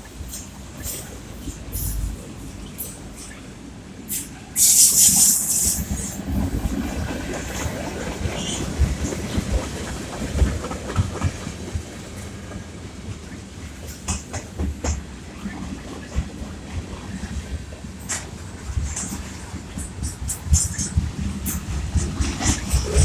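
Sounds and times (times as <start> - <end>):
low train rumble: 0.0 - 23.0
train wheels clacking over rail joints: 0.0 - 23.0.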